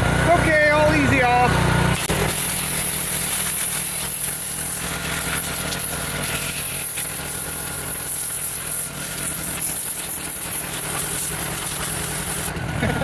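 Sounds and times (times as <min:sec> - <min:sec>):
small engine droning: 0:00.0 - 0:13.0
water jet spraying: 0:00.1 - 0:13.0.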